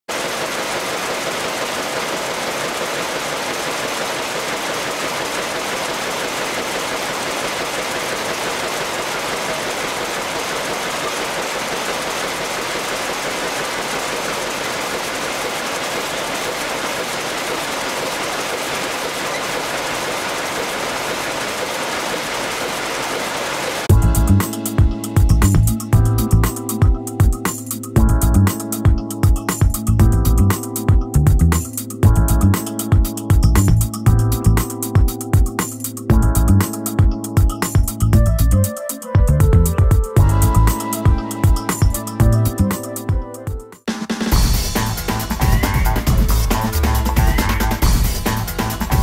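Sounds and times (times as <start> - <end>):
loom weaving mechanical beat: 0.0 - 25.8, 26.5 - 38.1, 38.8 - 49.0.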